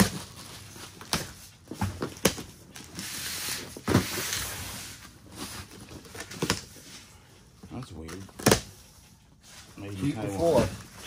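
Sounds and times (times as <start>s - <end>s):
cardboard and paper rustling: 0.0s - 11.0s.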